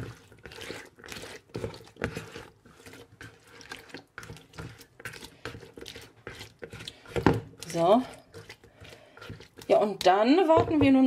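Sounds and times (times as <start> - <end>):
spatula squelching and scraping: 0.0 - 11.0.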